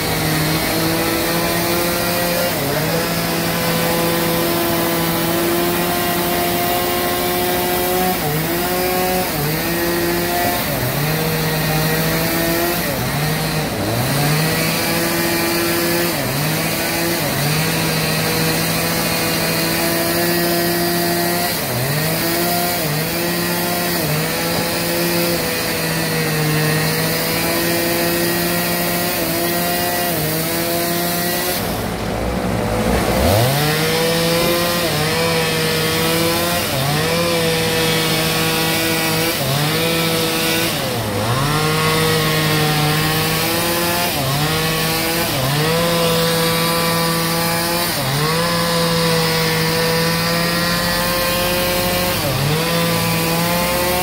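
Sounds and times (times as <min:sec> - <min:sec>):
bandsaw mill motor humming: 0:00.0 - 0:54.0.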